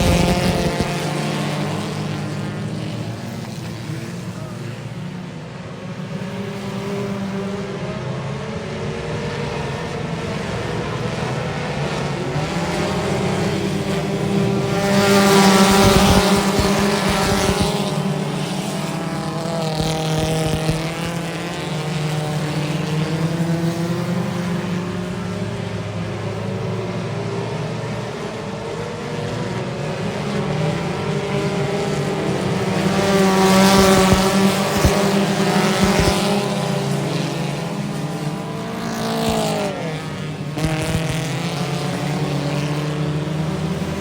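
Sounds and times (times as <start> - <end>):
race car engines: 0.0 - 44.0.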